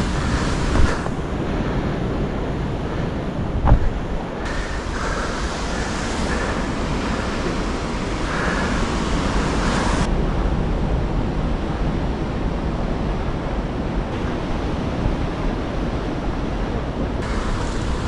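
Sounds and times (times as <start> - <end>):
ocean surf rushing: 0.0 - 18.0
wind on microphone: 0.0 - 18.0.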